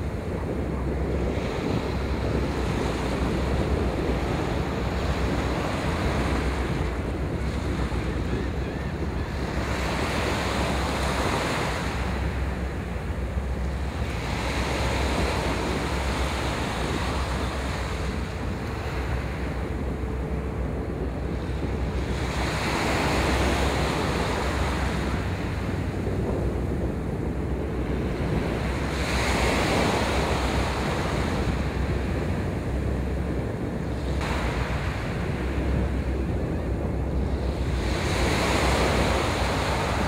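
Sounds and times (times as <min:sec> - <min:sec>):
waves washing: 0:00.0 - 0:40.0
wind buffeting microphone: 0:00.0 - 0:40.0.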